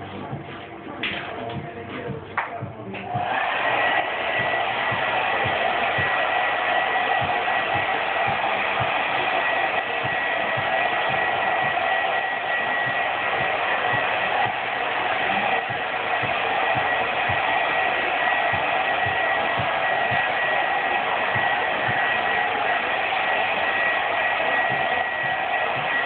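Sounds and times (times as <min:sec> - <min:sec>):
hot-air blower hissing and whining: 0:03.1 - 0:26.0.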